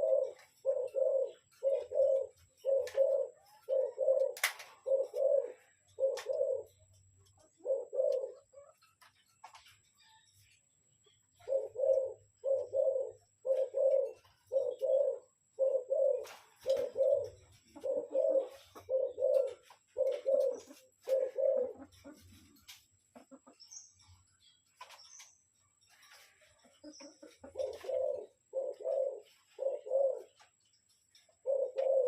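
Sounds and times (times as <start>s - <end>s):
dove cooing: 0.0s - 9.1s, 11.1s - 23.6s, 26.0s - 32.0s.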